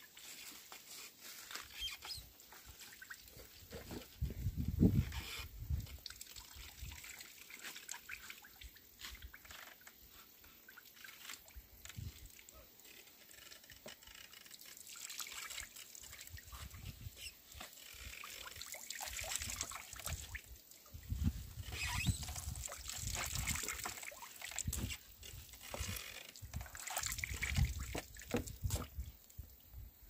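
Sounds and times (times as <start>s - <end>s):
oil trickling and dripping: 5.1s - 29.8s.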